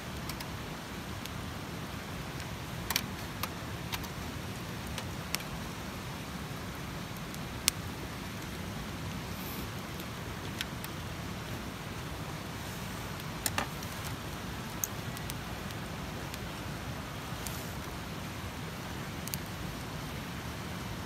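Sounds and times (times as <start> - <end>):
campfire crackles and pops: 0.0 - 21.0
campfire hiss and rumble: 0.0 - 21.0.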